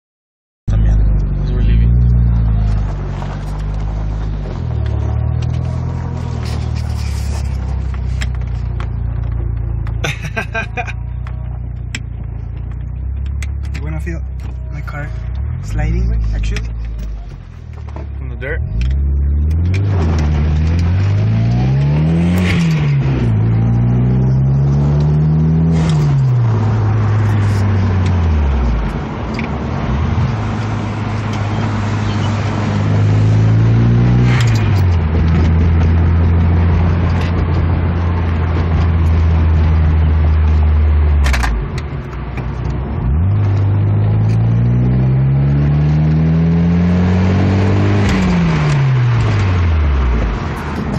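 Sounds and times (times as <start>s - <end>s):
car engine accelerating through gears: 0.7s - 50.9s.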